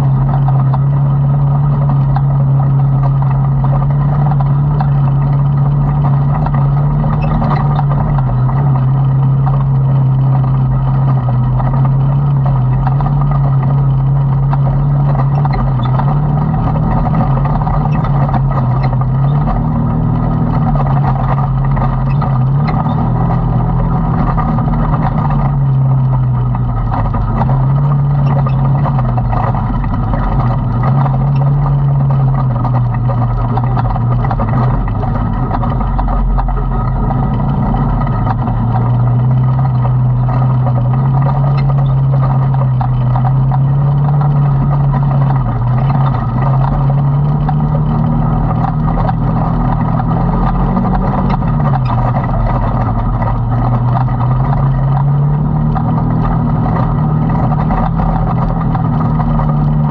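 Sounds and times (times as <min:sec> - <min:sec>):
utility vehicle engine running: 0:00.0 - 0:59.9.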